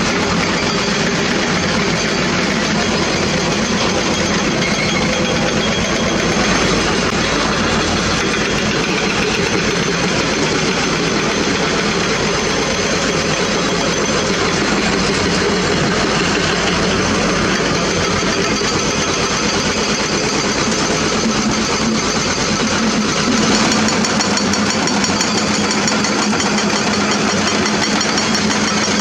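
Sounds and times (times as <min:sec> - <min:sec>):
excavator diesel engines droning: 0:00.0 - 0:29.0.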